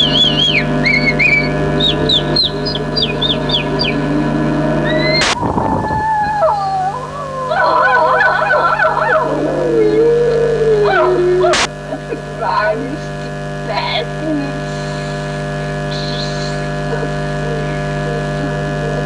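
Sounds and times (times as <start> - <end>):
electrical mains hum: 0.0 - 19.0
wavering voices: 0.0 - 19.0.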